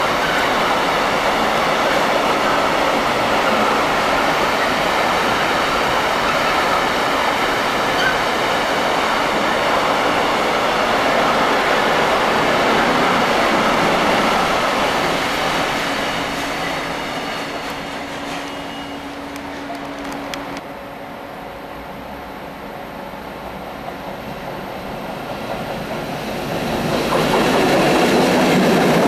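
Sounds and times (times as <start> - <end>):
freight train wheels on track: 0.0 - 29.0.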